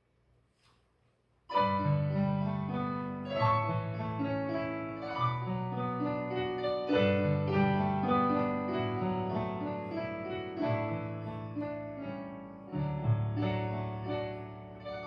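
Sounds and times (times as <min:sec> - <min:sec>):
slow piano chords: 0:01.5 - 0:15.0.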